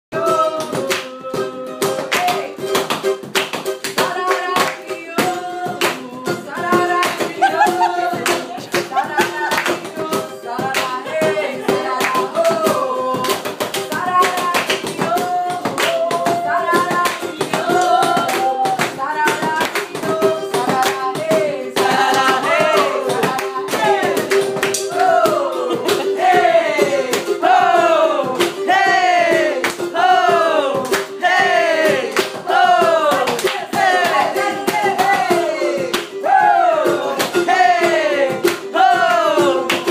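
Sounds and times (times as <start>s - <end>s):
hand clapping: 0.6s - 1.2s, 1.8s - 26.2s, 28.3s - 28.7s, 29.5s - 30.0s, 30.8s - 31.2s, 31.8s - 36.2s, 38.4s - 39.9s.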